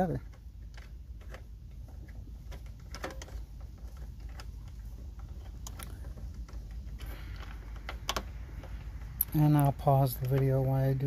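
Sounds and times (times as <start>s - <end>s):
low steady rumble: 0.0s - 11.0s
clicks of bolts and parts: 0.2s - 9.4s.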